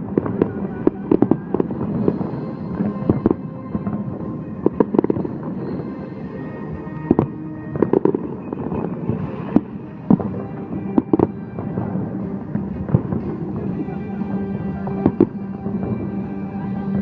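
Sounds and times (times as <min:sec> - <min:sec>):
fireworks bangs: 0:00.0 - 0:17.0
music playing: 0:00.0 - 0:17.0.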